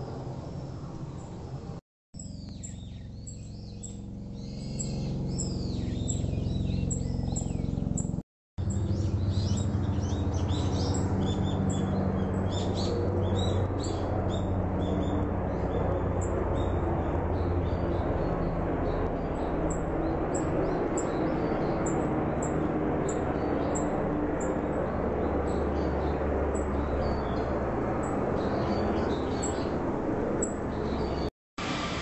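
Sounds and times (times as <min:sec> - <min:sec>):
small birds chirping: 0:00.0 - 0:31.3
helicopter droning: 0:00.0 - 0:32.0.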